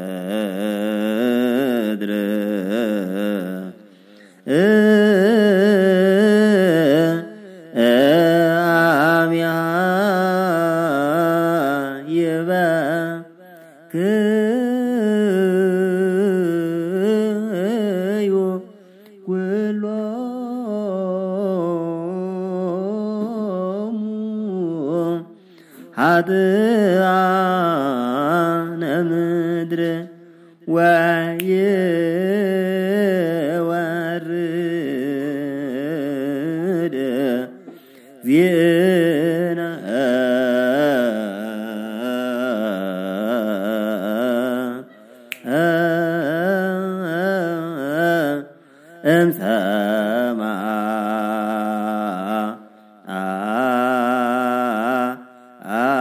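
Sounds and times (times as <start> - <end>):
men singing a liturgical chant: 0.0 - 3.8, 4.4 - 18.7, 25.9 - 56.0.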